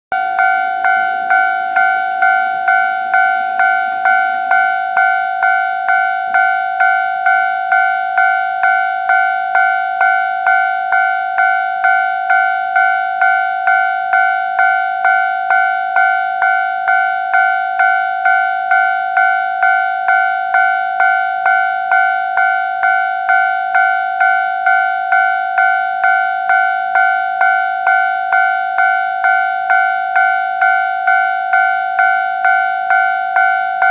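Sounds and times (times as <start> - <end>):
level-crossing warning bell ringing: 0.1 - 33.9.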